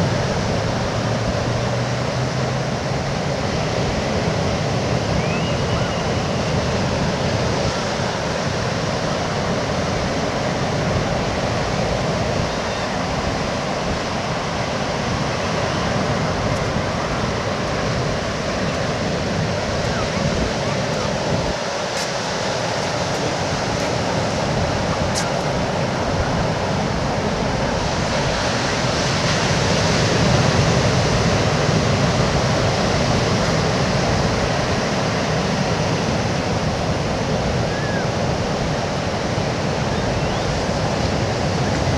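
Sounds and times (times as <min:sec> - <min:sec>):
ocean surf washing onto beach: 0:00.0 - 0:41.9.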